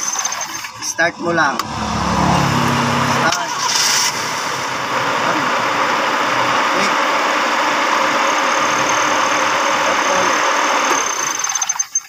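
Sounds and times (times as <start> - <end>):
car engine running: 1.2 - 11.7.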